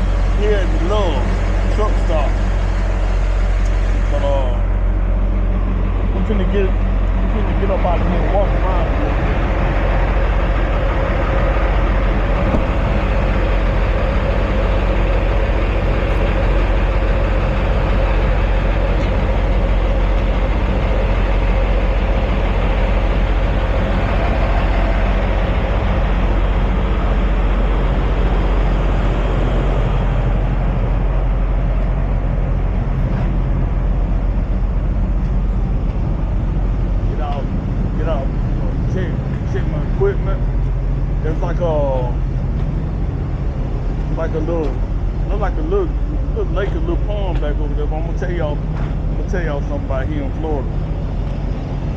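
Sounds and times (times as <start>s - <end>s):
truck engine idling: 0.0s - 51.9s.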